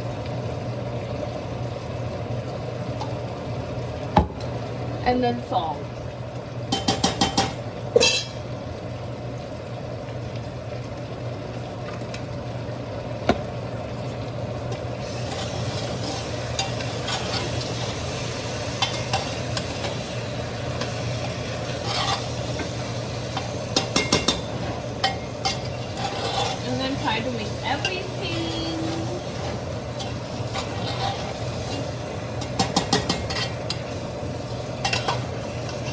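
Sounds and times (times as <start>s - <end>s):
meat sizzling in a pot: 0.0s - 35.9s.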